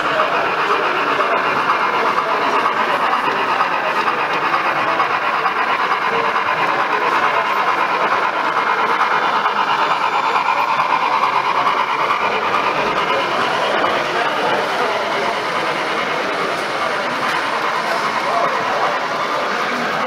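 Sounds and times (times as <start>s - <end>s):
model train motor whirring: 0.0s - 20.0s
wheels rolling on track: 0.0s - 20.0s.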